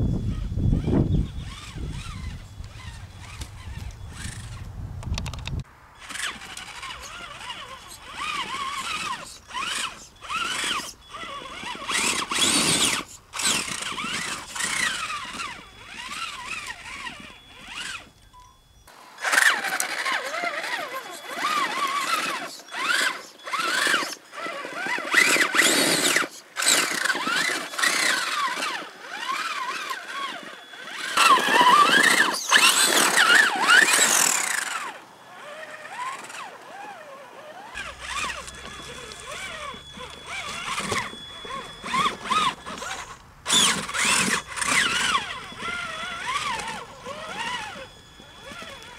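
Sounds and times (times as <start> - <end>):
electric motor whining: 0.0 - 48.9.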